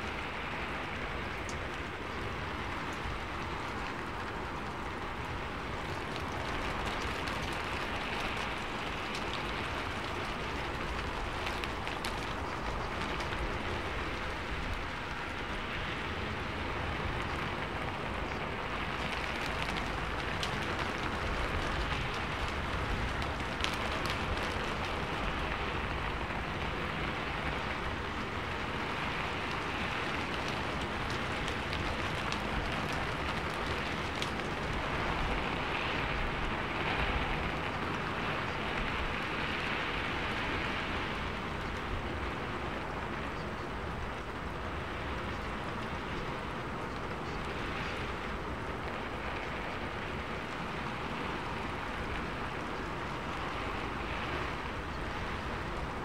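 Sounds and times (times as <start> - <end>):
rain-like rushing noise: 0.0 - 56.0.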